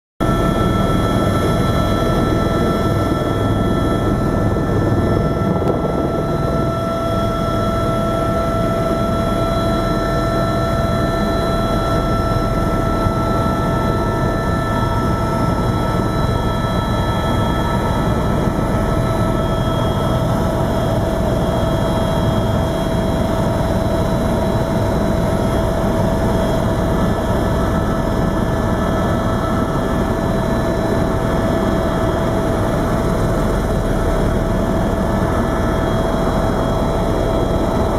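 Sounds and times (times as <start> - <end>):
helicopter engine and rotor rumble: 0.2 - 37.9.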